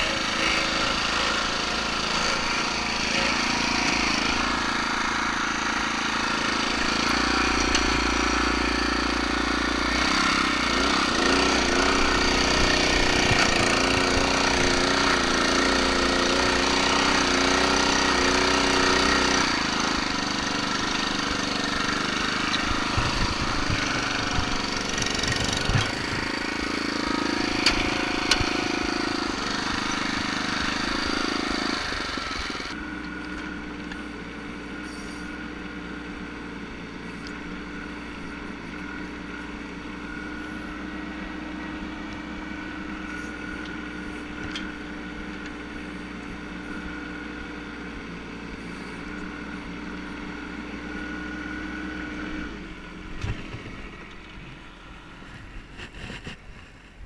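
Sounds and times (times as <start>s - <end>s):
dumper engine running hard: 0.0s - 57.0s
mini excavator engine running: 0.0s - 57.0s.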